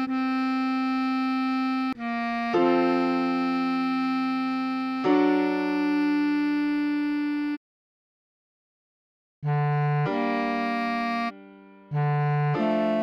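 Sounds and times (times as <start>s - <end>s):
bass clarinet melody: 0.0s - 7.6s, 9.4s - 13.0s
piano chords: 0.0s - 7.6s, 9.5s - 13.0s.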